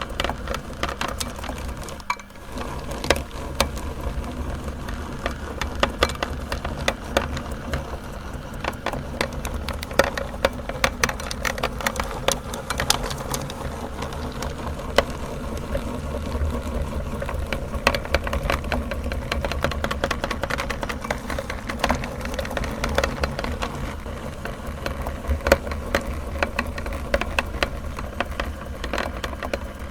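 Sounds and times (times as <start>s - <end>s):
meat grinder motor humming: 0.0s - 29.9s.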